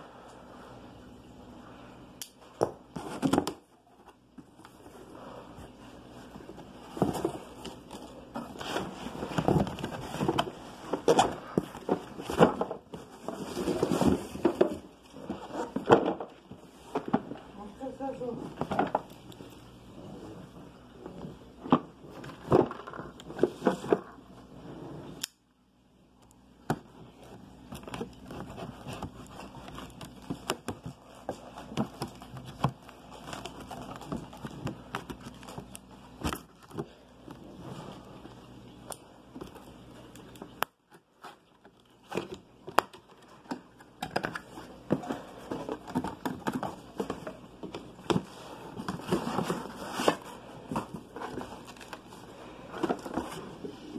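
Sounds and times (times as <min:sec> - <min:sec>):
cardboard rustling and scraping: 0:02.9 - 0:25.2, 0:26.8 - 0:38.4, 0:39.4 - 0:53.9.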